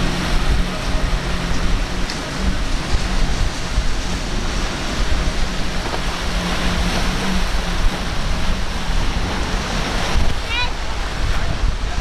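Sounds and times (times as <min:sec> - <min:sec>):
boat engine droning: 0:00.0 - 0:12.0
surf breaking: 0:00.0 - 0:12.0
wind buffeting microphone: 0:00.0 - 0:12.0.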